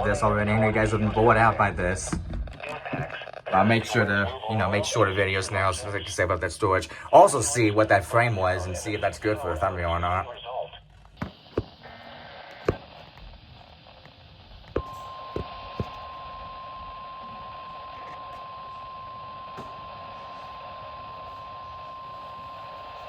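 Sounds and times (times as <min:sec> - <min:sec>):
radio receiver hissing: 0:00.0 - 0:23.0.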